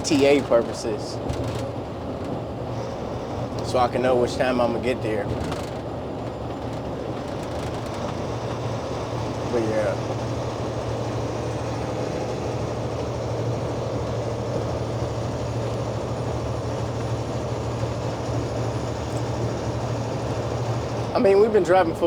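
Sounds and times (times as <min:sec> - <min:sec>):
diesel truck engine drone: 0:00.0 - 0:22.0
road and tyre noise: 0:00.0 - 0:22.0.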